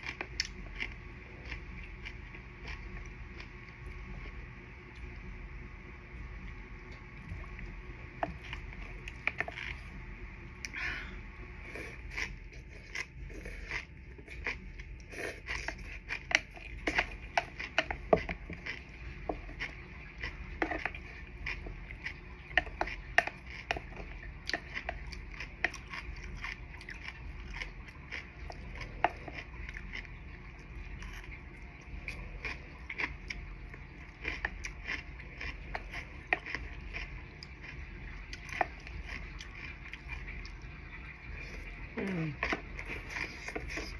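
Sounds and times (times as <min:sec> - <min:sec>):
chewing with wet smacks: 0:00.0 - 0:04.4, 0:12.0 - 0:43.9.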